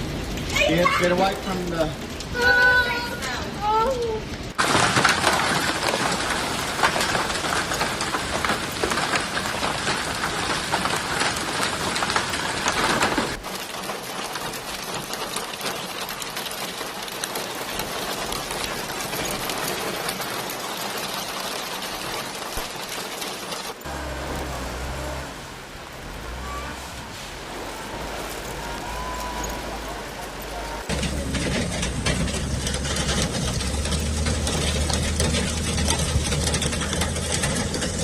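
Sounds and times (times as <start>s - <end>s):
heavy rain falling: 0.0s - 38.0s.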